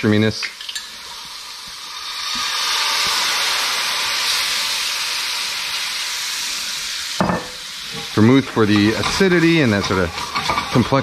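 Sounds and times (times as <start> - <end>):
liquid sizzling in a hot skillet: 0.0 - 11.0.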